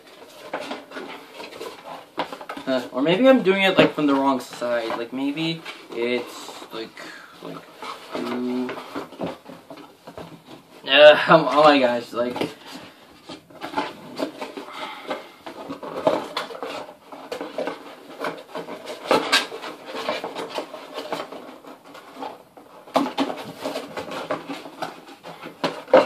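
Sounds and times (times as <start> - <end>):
cardboard rubbing and scraping: 0.0 - 26.0.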